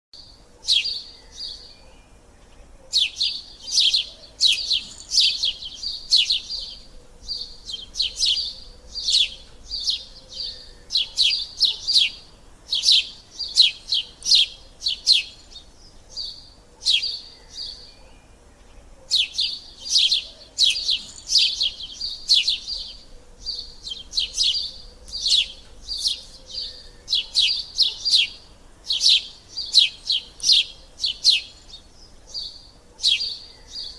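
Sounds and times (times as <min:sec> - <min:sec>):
sparrows chirping: 0:00.2 - 0:33.9.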